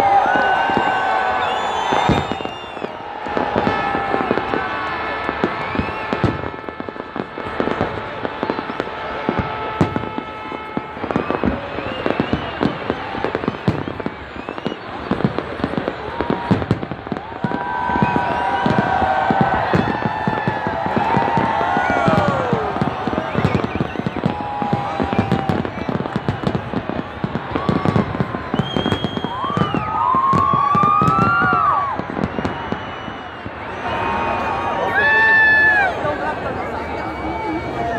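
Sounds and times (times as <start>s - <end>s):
firework bangs: 0.0s - 35.5s
firework crackles: 0.0s - 37.9s.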